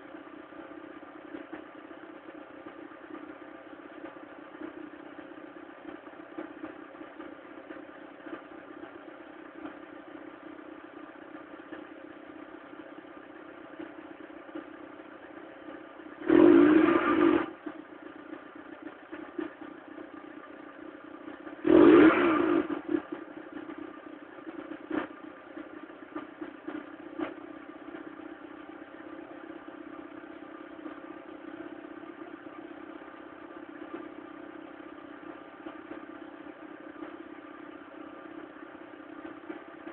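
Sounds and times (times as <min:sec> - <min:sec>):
clattery car engine idling: 0:00.0 - 0:39.9.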